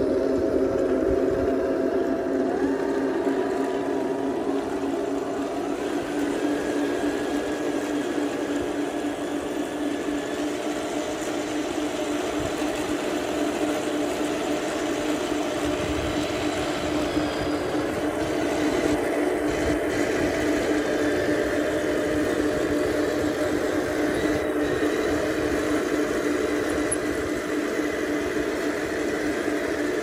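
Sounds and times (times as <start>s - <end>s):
electric motor whirring and whining: 0.0s - 30.0s.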